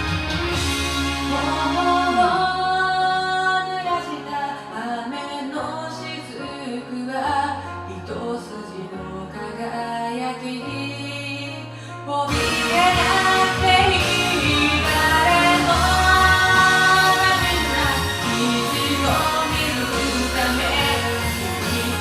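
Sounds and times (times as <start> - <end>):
pop-rock ballad backing track: 0.0 - 11.5, 12.1 - 22.0
woman singing: 1.3 - 22.0.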